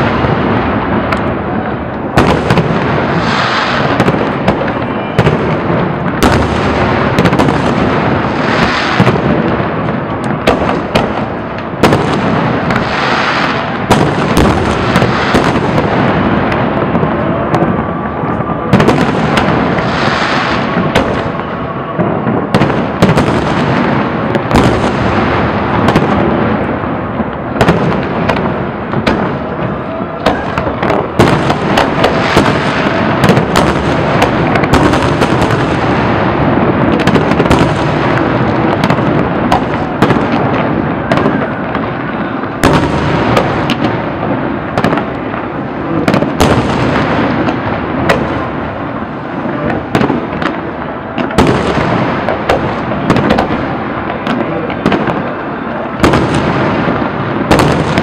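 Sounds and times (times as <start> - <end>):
crackling rumble of fireworks: 0.0 - 58.0.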